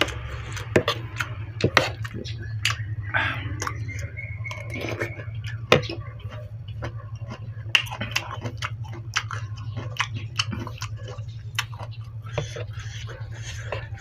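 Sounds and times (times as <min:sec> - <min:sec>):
person chewing crunchy food: 0:00.0 - 0:14.0
steady low hum: 0:00.0 - 0:14.0.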